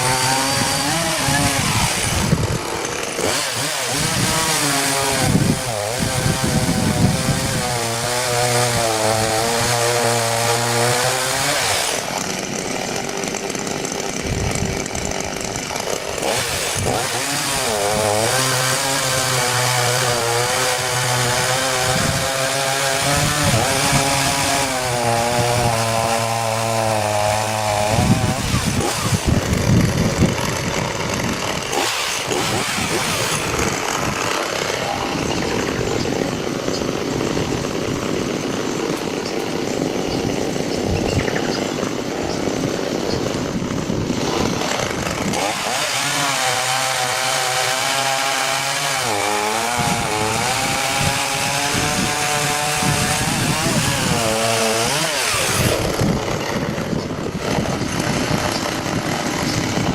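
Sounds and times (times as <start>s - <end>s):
chainsaw running: 0.0s - 59.9s.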